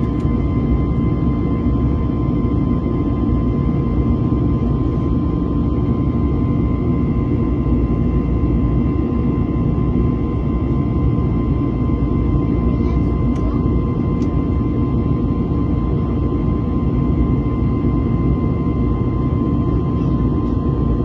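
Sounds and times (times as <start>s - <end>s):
jet engine rumble and airflow: 0.0s - 21.0s
steady whine: 0.0s - 21.0s.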